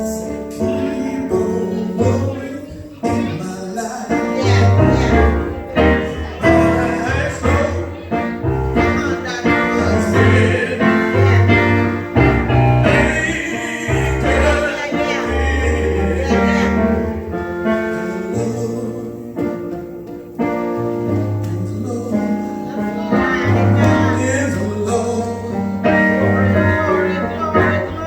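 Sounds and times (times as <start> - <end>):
gospel singing: 0.0 - 28.0
keyboard and bass accompaniment: 0.0 - 28.0.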